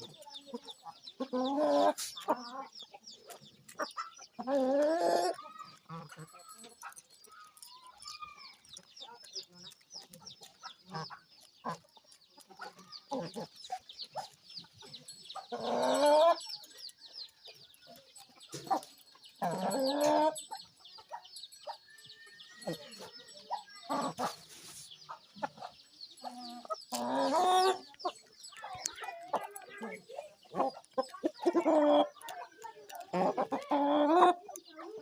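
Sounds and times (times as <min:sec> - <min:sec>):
chickens calling and clucking: 0:00.0 - 0:35.0
drawn-out chicken calls: 0:00.0 - 0:35.0.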